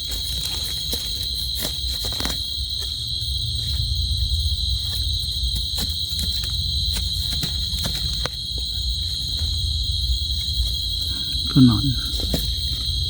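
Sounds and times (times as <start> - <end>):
crickets droning: 0.0 - 13.0.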